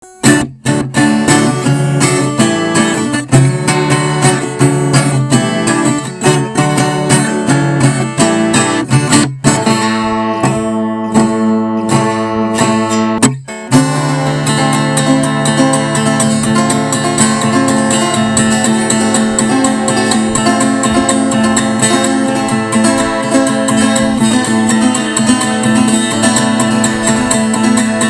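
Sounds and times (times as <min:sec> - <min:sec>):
plucked and strummed guitar: 0:00.0 - 0:28.0.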